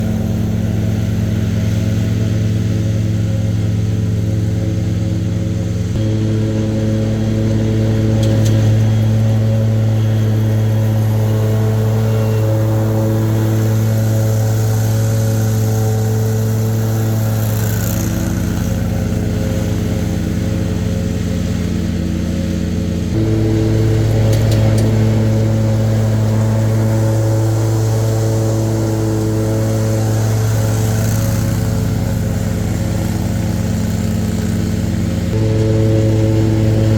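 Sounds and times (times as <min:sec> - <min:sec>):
lawn mower engine running: 0:00.0 - 0:36.9.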